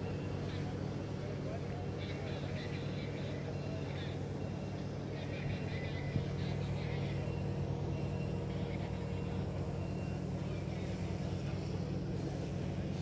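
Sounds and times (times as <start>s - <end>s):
diesel machinery drone: 0.0s - 13.0s
faint voices: 0.0s - 13.0s.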